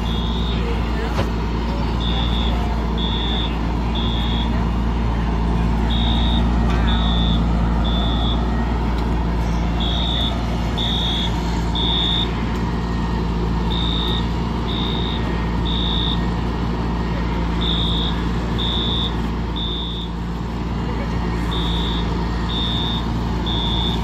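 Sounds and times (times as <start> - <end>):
fire alarm beeping: 0.0 - 1.0, 1.9 - 5.0, 5.8 - 8.7, 9.3 - 20.2, 21.3 - 24.0
engine idling: 0.0 - 24.0.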